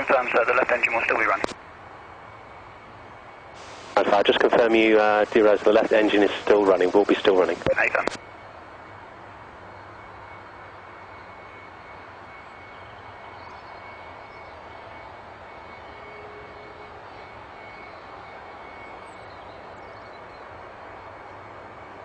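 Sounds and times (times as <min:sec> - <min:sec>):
jet engine running: 0:00.0 - 0:22.0.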